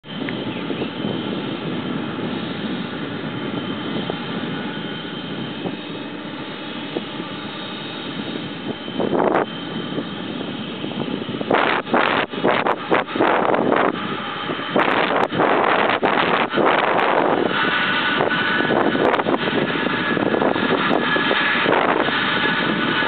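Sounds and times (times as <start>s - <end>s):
jet engines with high whine: 0.0s - 23.0s
wind buffeting microphone: 0.0s - 23.0s.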